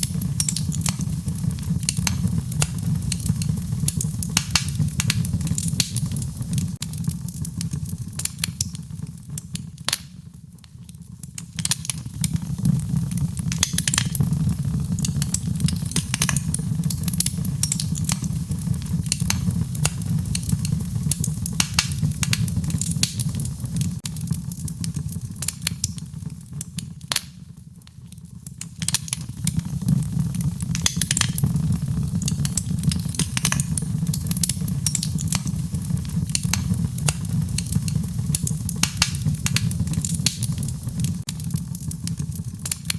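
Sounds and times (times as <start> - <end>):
low rumble of flames: 0.0 - 42.9
wood fire crackling and popping: 0.0 - 42.9.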